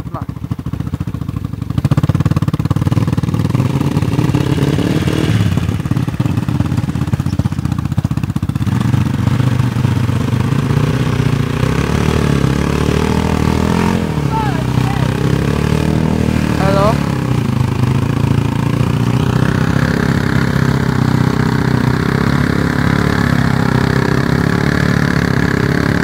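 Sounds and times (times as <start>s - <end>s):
quad engine running under load: 0.0s - 26.0s
water splashing around wheels: 0.0s - 26.0s.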